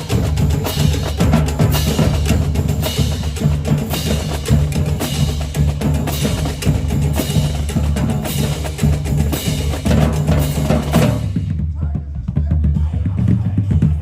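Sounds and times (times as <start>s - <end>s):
bass drums: 0.0s - 14.0s
snare and tenor drums: 0.0s - 14.0s.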